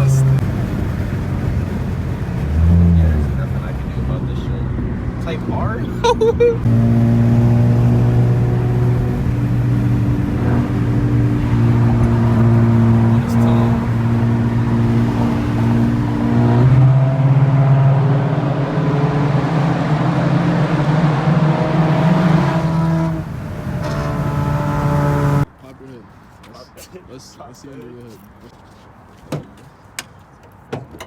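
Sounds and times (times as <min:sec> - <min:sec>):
car engine droning: 0:00.0 - 0:25.5.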